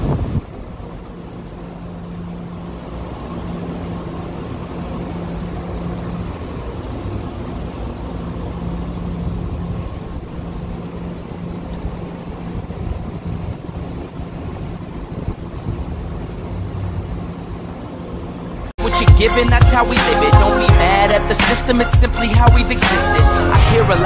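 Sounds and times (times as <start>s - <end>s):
noise haze: 0.0s - 24.0s
vehicle running hum: 0.0s - 24.0s.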